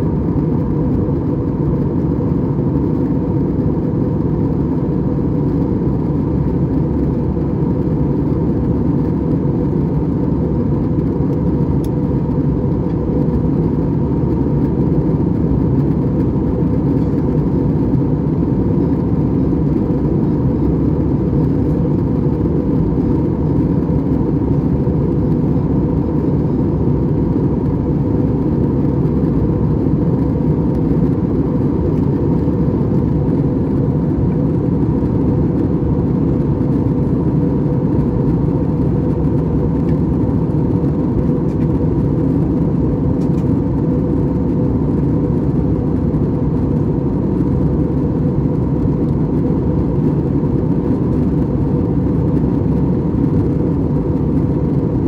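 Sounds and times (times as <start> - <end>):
airplane cabin engine rush: 0.0 - 55.0.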